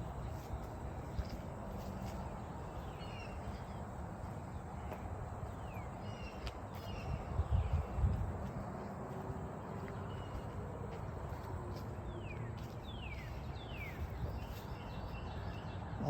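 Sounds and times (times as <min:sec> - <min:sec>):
steady low rumble: 0:00.0 - 0:15.8
small birds chirping: 0:00.0 - 0:16.0.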